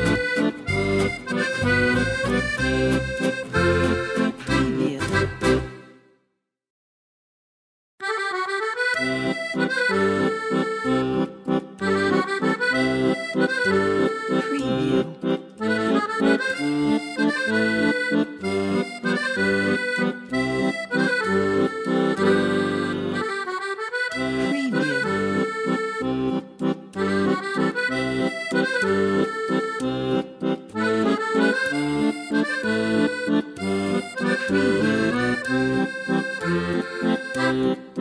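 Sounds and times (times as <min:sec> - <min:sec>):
instrumental music with bass beat: 0:00.0 - 0:06.0, 0:08.1 - 0:38.0.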